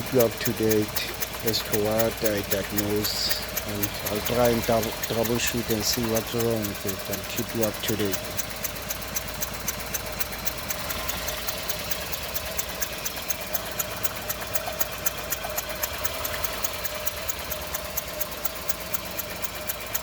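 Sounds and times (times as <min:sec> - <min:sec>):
rough car engine idling: 0:00.0 - 0:20.0.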